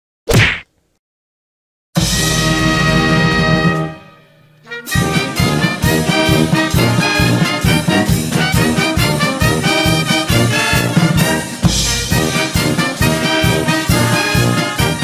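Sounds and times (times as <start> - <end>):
brass-led swing music: 2.0 - 15.0.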